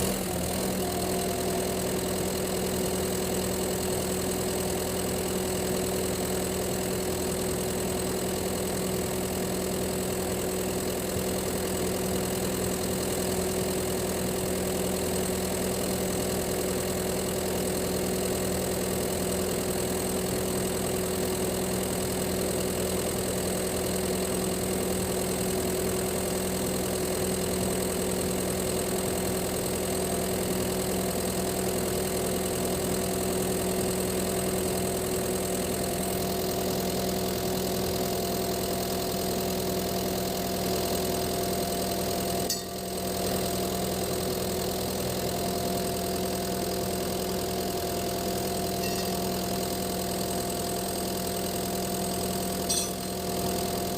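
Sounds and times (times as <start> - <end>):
excavator diesel engine idling: 0.0 - 53.9.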